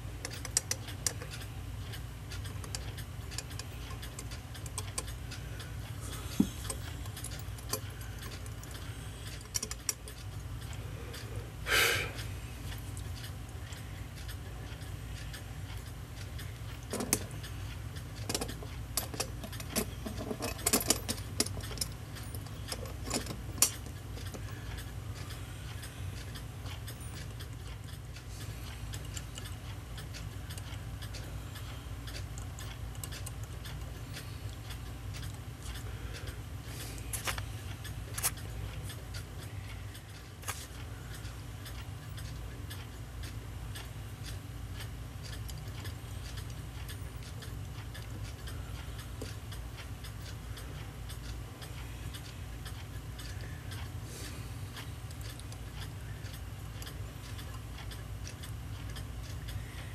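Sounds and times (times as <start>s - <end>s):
clock ticking: 0.0s - 59.9s
metallic clicks of clock parts: 0.0s - 59.9s
steady low hum: 0.0s - 59.9s.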